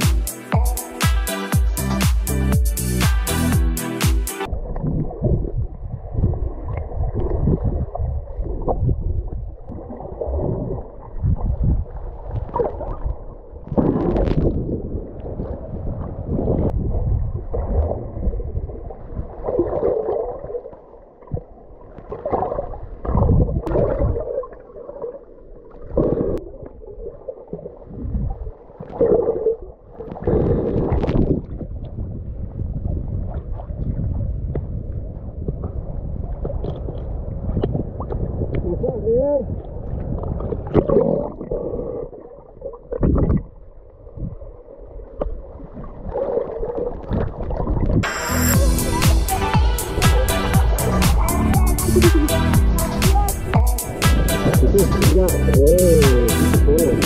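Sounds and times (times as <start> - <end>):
underwater gurgling and sloshing: 4.5 - 50.8.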